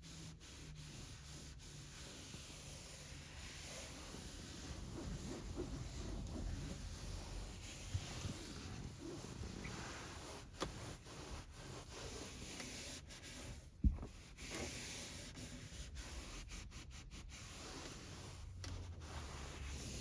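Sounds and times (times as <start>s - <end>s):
cloth rubbing on surfaces: 0.0s - 20.0s.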